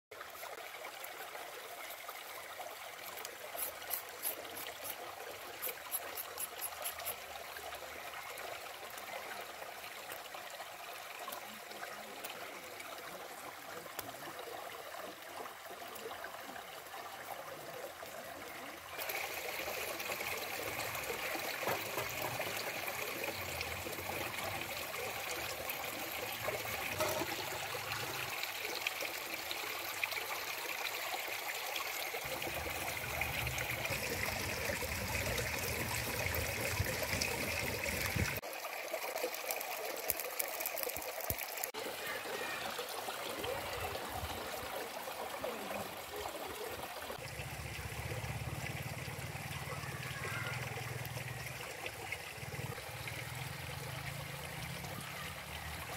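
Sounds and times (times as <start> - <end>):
stream water rushing: 0.2 - 49.9.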